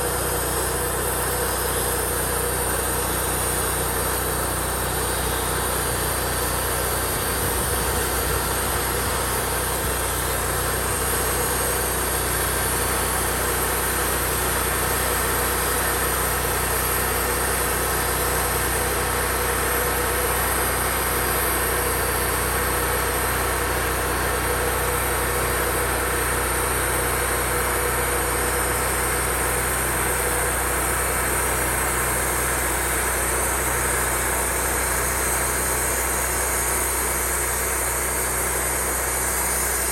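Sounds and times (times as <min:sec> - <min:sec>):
saw cutting log: 0:00.0 - 0:39.9
sawmill engine running: 0:00.0 - 0:39.9.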